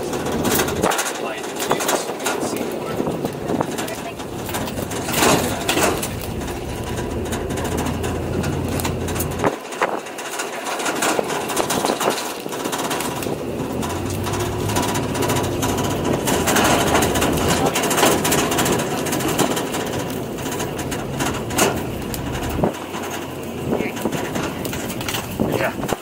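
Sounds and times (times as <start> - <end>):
knocks and rattles of truck: 0.0 - 26.0
truck engine hum: 0.0 - 26.0.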